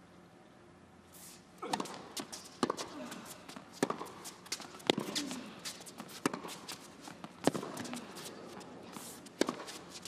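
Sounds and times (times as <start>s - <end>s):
quick footsteps on hard court: 1.6s - 10.0s
tennis racket hitting ball: 1.6s - 10.0s.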